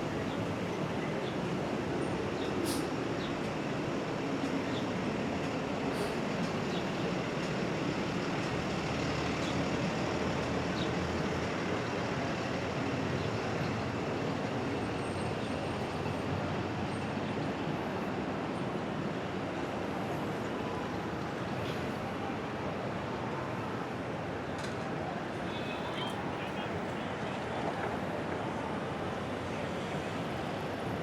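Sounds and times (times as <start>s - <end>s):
city street traffic rumble: 0.0s - 31.0s.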